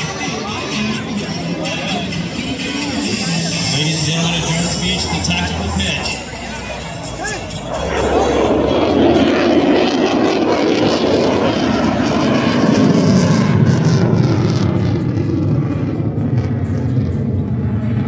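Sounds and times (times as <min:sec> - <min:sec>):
aircraft engine flying past: 0:00.0 - 0:18.0.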